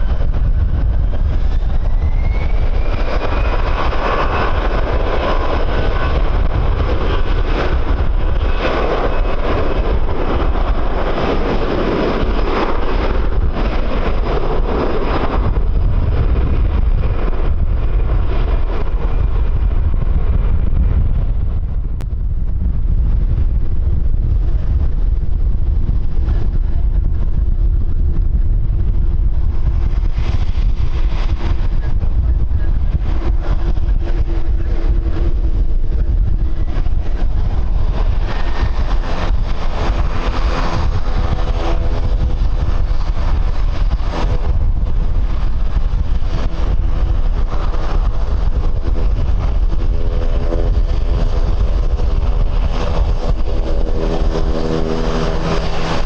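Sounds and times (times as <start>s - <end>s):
jet engines roaring: 0.0s - 56.0s
wind buffeting microphone: 0.0s - 56.0s.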